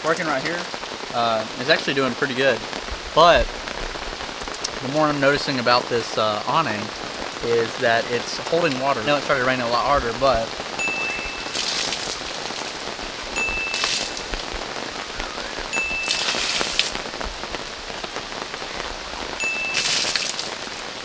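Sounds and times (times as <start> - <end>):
heavy rain on fabric awning: 0.0 - 21.0
water gushing and splashing: 0.0 - 21.0.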